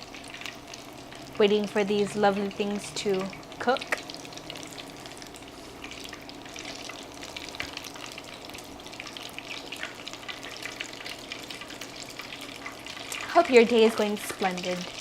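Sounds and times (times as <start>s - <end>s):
food sizzling in frying oil: 0.0s - 15.0s.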